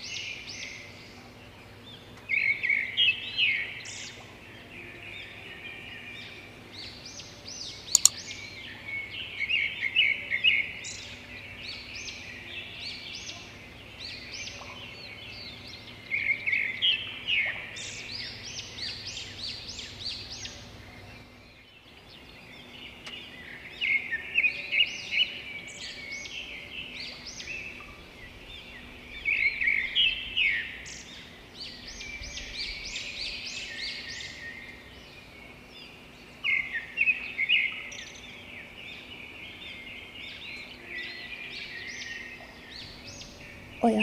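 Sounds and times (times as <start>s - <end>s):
birds chirping and twittering: 0.0s - 44.0s.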